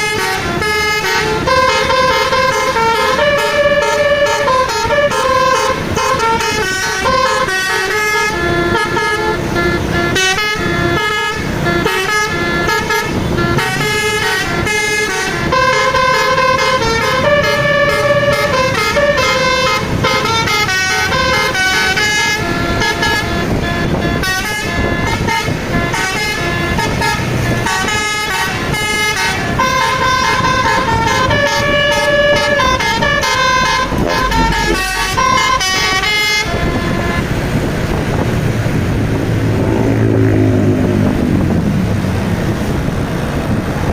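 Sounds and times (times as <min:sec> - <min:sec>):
multi-tone air horn melody: 0:00.0 - 0:38.0.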